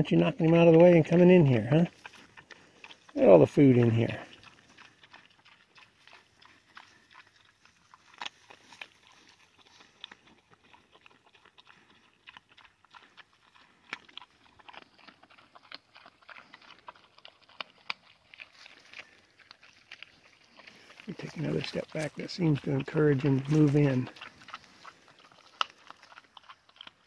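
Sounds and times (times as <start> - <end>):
pigs crunching acorns: 0.0 - 27.0.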